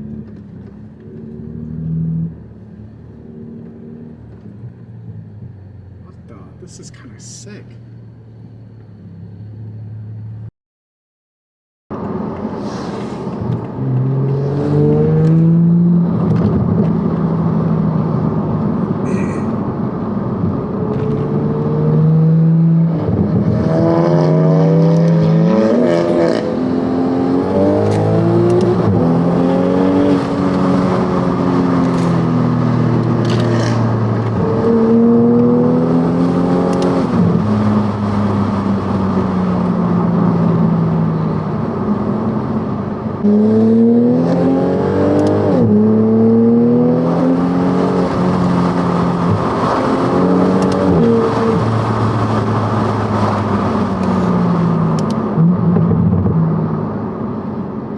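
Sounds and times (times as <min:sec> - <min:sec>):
car engine revving while driving: 0:00.0 - 0:10.5, 0:11.9 - 0:57.9.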